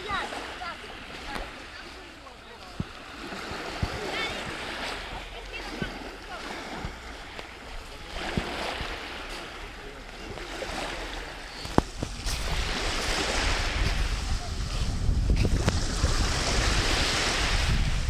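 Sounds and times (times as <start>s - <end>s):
sea waves washing in: 0.0s - 18.0s
wind buffeting microphone: 0.0s - 18.0s.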